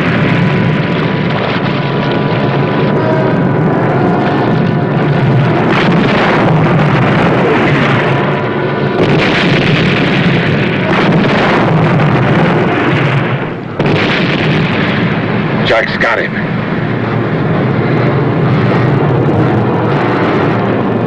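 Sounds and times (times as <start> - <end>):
explosions: 0.0 - 21.0
low engine drone: 0.0 - 21.0.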